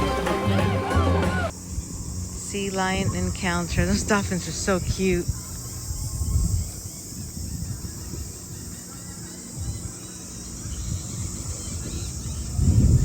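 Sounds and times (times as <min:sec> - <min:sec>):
wind rumble on microphone: 0:01.4 - 0:13.0
insect chirring: 0:01.5 - 0:13.0.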